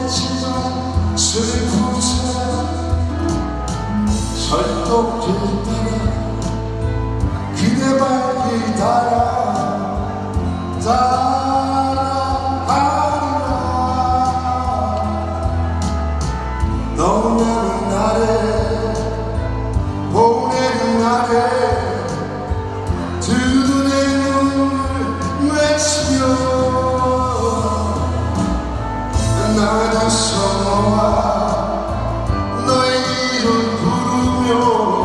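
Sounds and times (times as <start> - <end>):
man singing into a microphone: 0.0 - 16.0, 16.6 - 35.0
instrumental accompaniment: 0.0 - 35.0.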